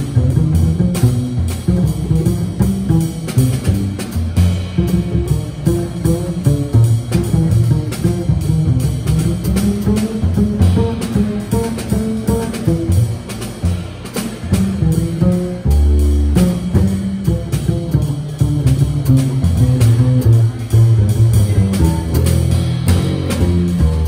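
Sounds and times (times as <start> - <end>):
drum kit: 0.0 - 24.0
plucked double bass solo: 0.0 - 24.0.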